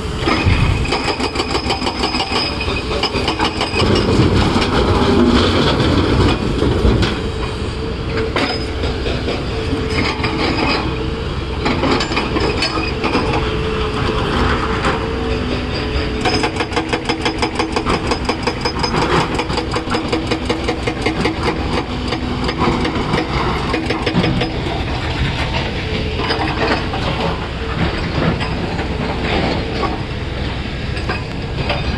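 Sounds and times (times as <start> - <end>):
diesel excavators running: 0.0 - 31.9
hydraulic rock breaker hammering: 0.2 - 7.5, 8.1 - 31.9.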